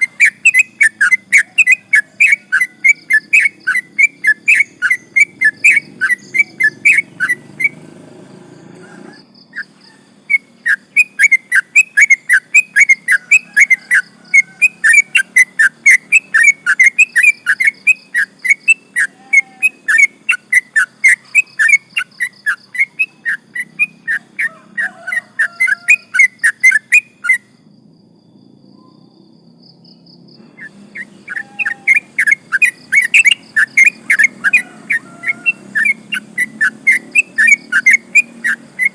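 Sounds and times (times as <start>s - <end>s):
bird singing whistled notes: 0.0s - 7.9s, 8.5s - 38.9s.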